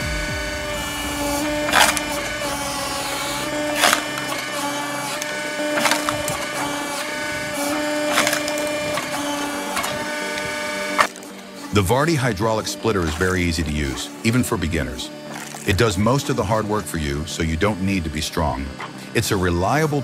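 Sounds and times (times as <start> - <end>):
wood splitting cracks: 0.0 - 16.8
log splitter motor droning: 0.0 - 20.0.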